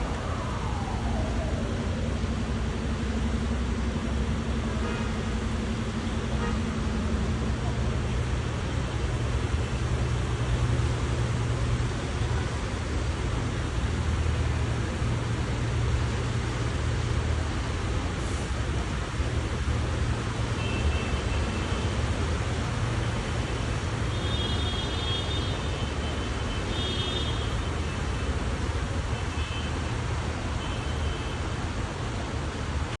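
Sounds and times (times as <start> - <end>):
heavy rain pouring: 0.0 - 26.5.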